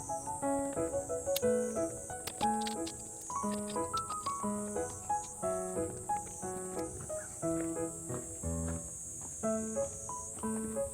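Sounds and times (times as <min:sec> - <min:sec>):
high-pitched hiss: 0:00.0 - 0:10.9
simple background melody: 0:00.0 - 0:10.9.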